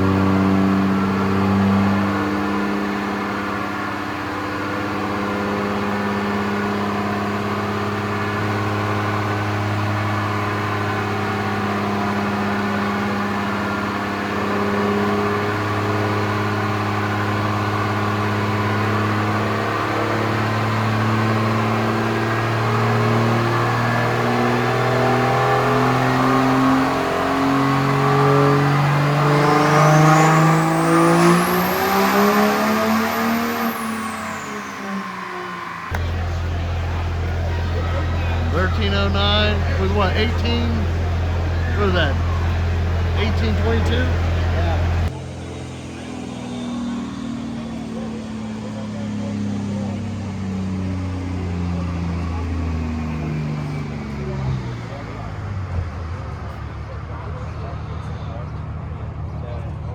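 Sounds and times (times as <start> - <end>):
diesel engine revving on dyno: 0.0 - 59.9.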